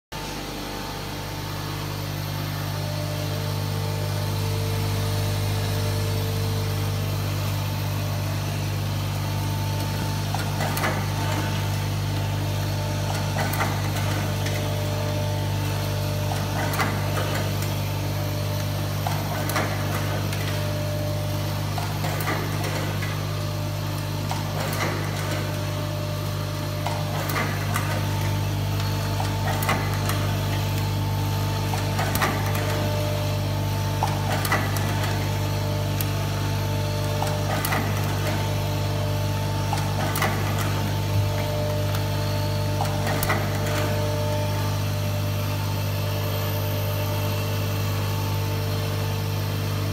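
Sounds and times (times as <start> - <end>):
machine low hum: 0.1 - 49.9.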